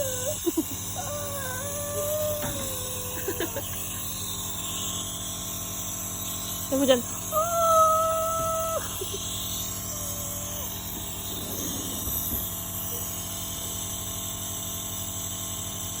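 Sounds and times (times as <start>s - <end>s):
compressor humming: 0.0s - 14.4s.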